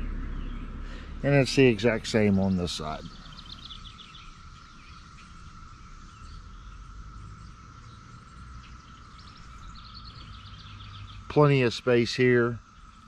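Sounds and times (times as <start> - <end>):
faint bird chirps: 0.0 - 13.0
insect drone: 0.0 - 13.0
low rumble of wind: 0.0 - 13.0.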